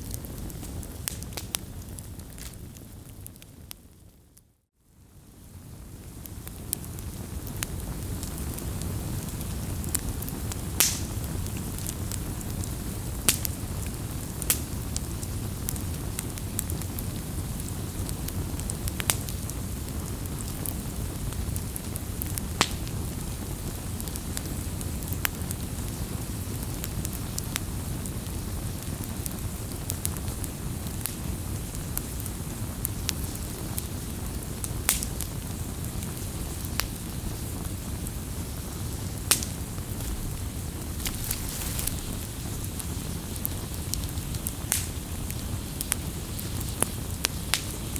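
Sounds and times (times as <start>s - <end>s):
wood fire crackling and popping: 0.0s - 4.5s, 5.4s - 47.9s.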